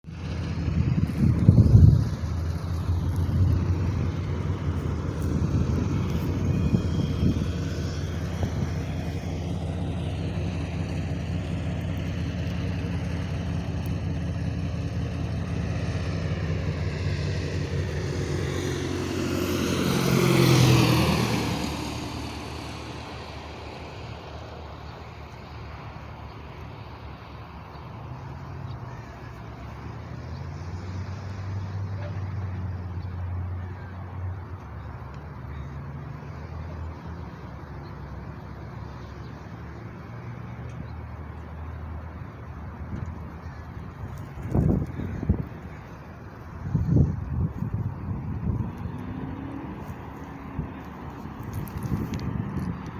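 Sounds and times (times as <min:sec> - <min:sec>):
propeller airplane flying past: 0:00.0 - 0:52.9.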